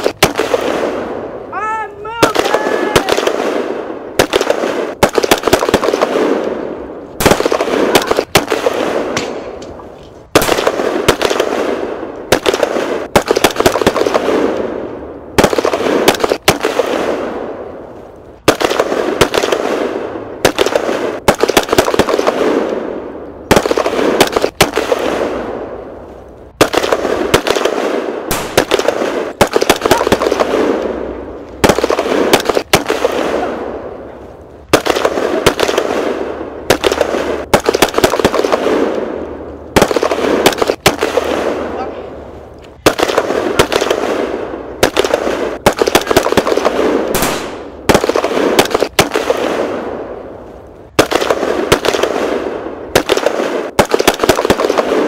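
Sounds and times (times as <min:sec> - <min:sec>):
explosions with echoing rumble: 0:00.0 - 0:01.5, 0:02.2 - 0:09.6, 0:10.3 - 0:55.0
gunfire: 0:00.0 - 0:01.5, 0:02.1 - 0:17.8, 0:18.4 - 0:42.2, 0:42.8 - 0:55.0.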